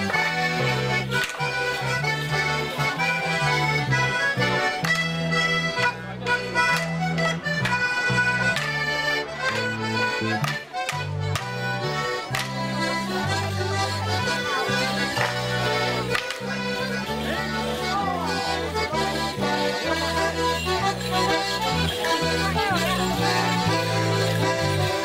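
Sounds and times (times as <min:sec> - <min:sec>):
accordion melody: 0:00.0 - 0:25.0
electric bass guitar: 0:00.0 - 0:25.0.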